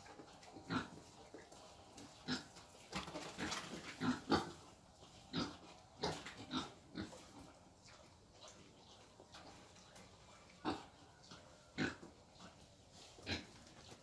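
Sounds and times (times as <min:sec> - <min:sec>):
wild boar grunting and snuffling: 0:00.0 - 0:14.0.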